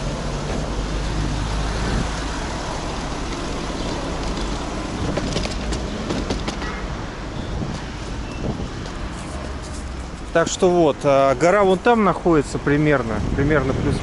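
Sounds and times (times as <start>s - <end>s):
passing car traffic rumble: 0.0s - 14.0s.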